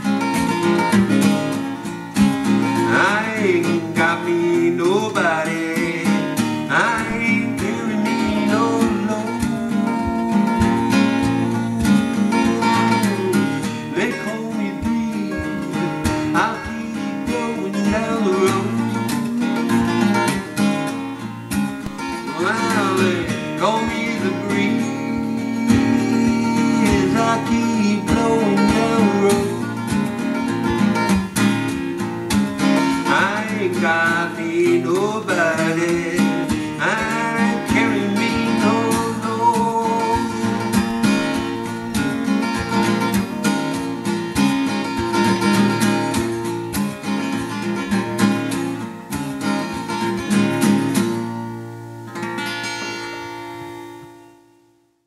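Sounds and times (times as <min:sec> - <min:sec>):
acoustic blues guitar: 0:00.0 - 0:55.0.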